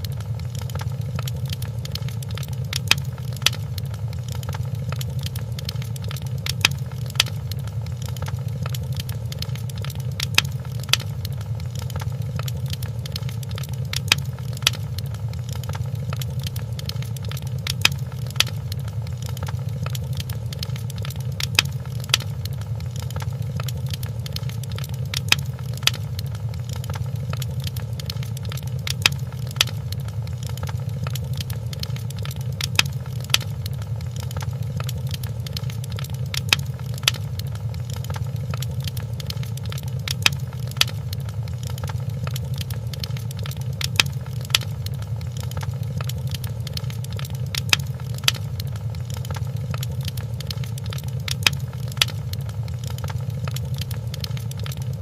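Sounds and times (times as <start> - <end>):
sharp fire pops: 0.0 - 55.0
wood fire crackling: 0.0 - 55.0.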